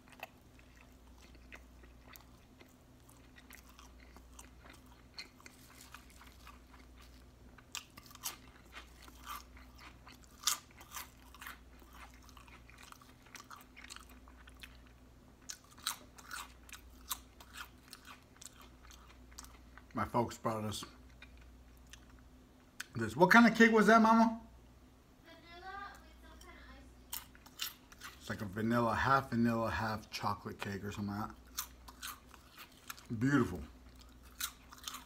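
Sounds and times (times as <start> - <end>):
close chewing with wet mouth sounds: 0.0 - 20.2, 20.8 - 23.0, 26.4 - 28.8, 30.6 - 35.0
crunching food: 0.0 - 23.0, 27.0 - 29.4, 30.0 - 35.0.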